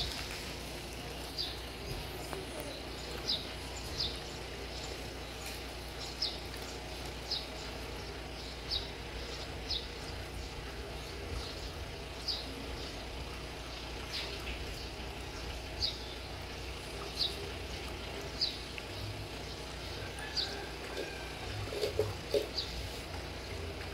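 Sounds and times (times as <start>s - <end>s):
small bird chirping: 0.0s - 23.0s
low background hum: 0.0s - 23.9s.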